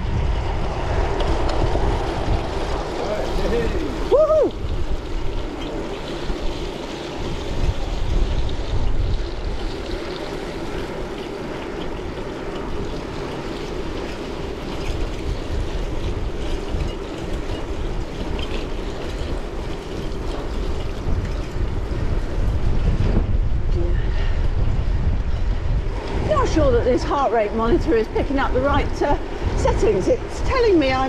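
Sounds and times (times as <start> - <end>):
road and tyre rumble: 0.0 - 31.0
wind buffeting microphone: 0.0 - 31.0.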